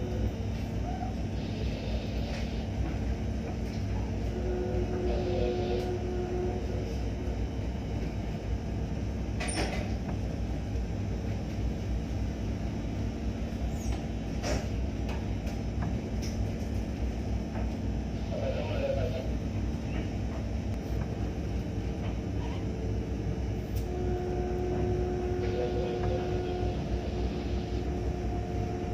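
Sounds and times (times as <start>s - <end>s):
boat diesel engine droning: 0.0s - 28.9s.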